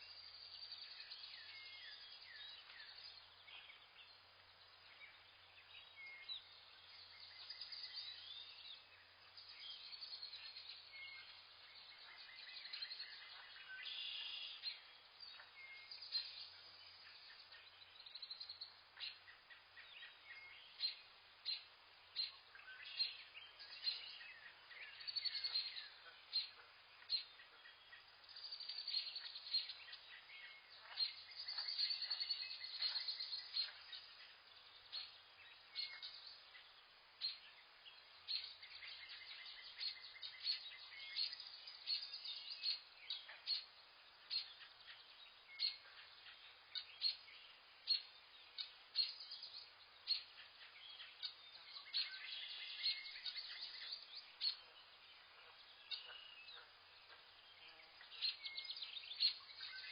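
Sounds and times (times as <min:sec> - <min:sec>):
birds chirping and trilling: 0:00.0 - 0:59.9
faint steady hiss: 0:00.0 - 0:59.9.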